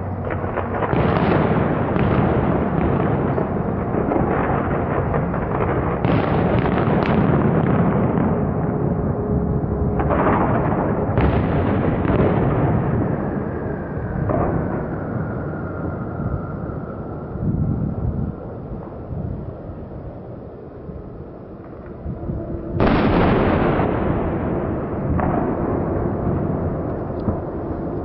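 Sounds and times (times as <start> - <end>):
fireworks bangs and crackling: 0.0 - 19.5, 21.6 - 28.0.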